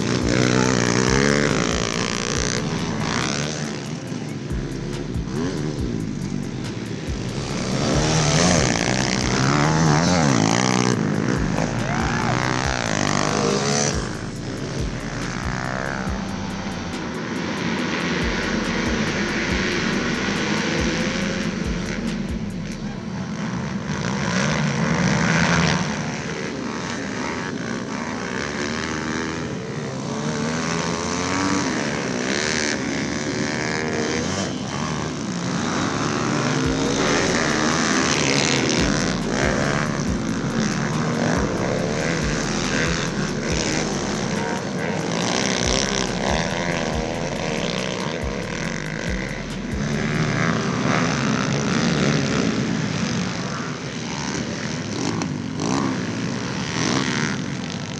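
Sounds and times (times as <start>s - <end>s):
small motorbike engines revving: 0.0s - 57.9s.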